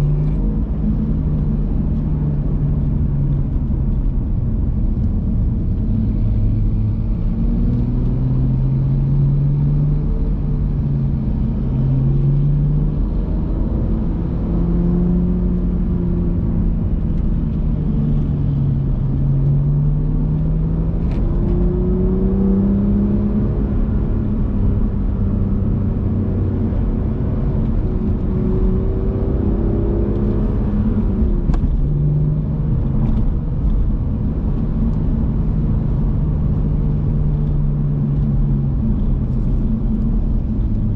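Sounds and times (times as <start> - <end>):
car engine accelerating: 0.0 - 40.9
low road rumble: 0.0 - 40.9.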